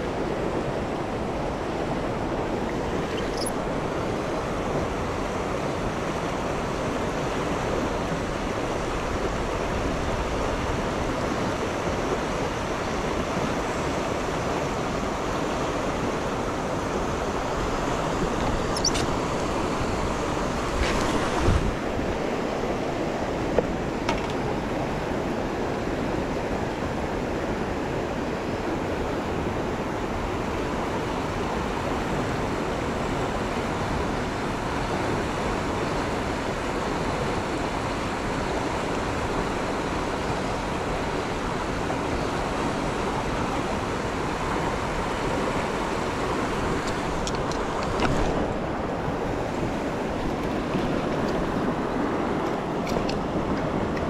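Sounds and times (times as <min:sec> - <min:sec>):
river current rushing: 0:00.0 - 0:54.0.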